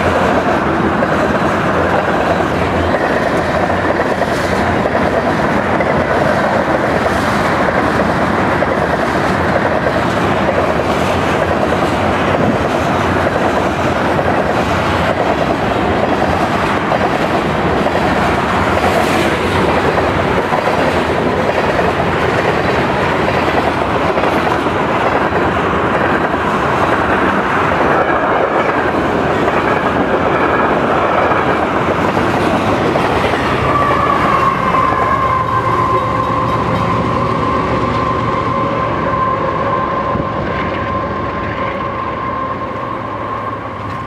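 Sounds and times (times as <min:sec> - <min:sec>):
diesel locomotive whine: 0:00.0 - 0:44.0
freight train wheels clickety-clack: 0:00.0 - 0:44.0.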